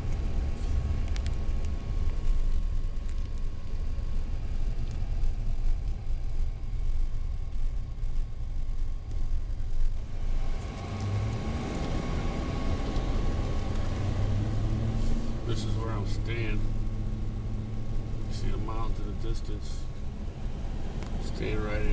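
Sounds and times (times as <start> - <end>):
car road and engine rumble: 0.0 - 21.9.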